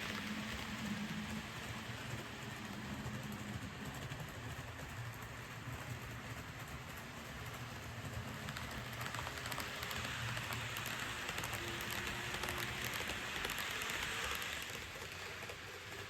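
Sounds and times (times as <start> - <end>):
model train wheels on rail: 0.0 - 16.0.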